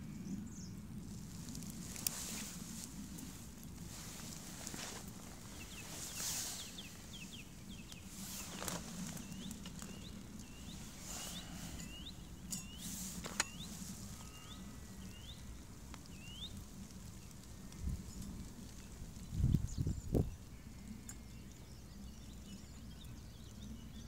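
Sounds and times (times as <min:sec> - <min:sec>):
low outdoor rumble: 0:00.0 - 0:24.0
small bird chirping: 0:01.4 - 0:24.0.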